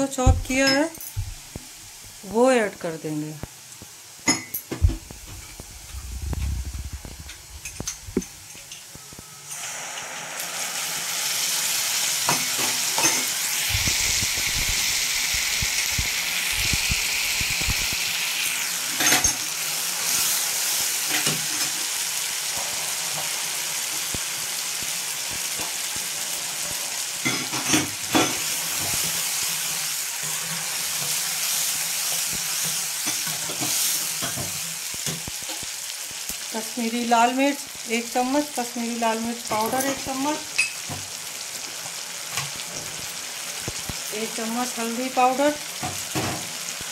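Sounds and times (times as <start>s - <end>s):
loud sizzle in pan: 0.0s - 46.9s.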